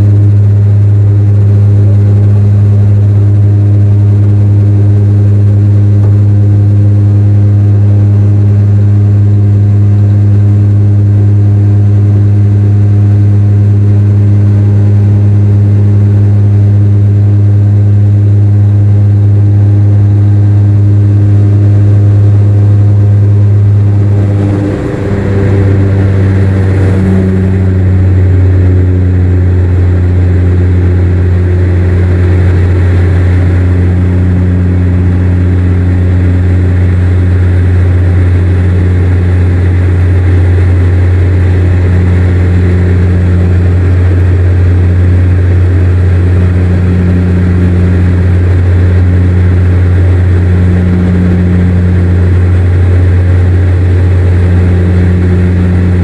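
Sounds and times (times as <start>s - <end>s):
turboprop cabin drone: 0.0s - 56.0s.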